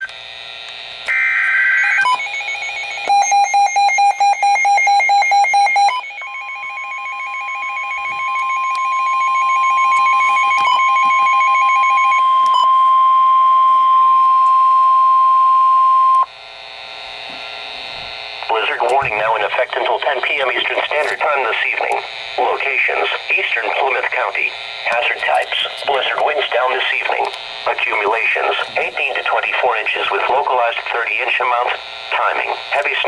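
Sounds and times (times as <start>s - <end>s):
long steady alarm tone: 0.2s - 33.0s.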